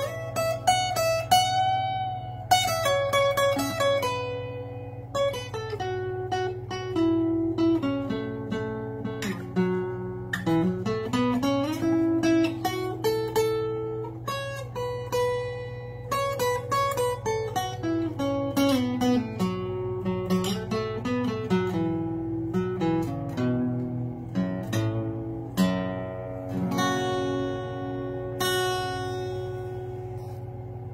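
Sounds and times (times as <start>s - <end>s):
fingerpicked acoustic blues guitar: 0.0s - 30.9s.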